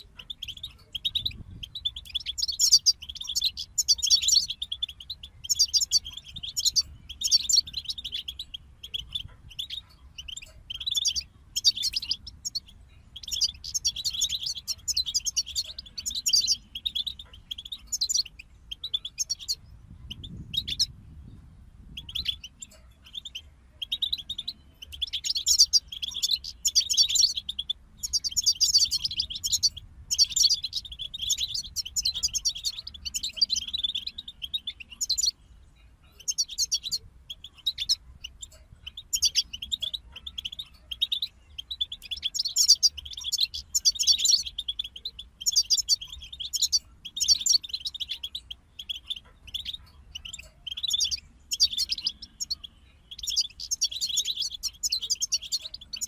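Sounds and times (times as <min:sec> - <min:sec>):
goldfinch twittering song: 0:00.0 - 0:56.0.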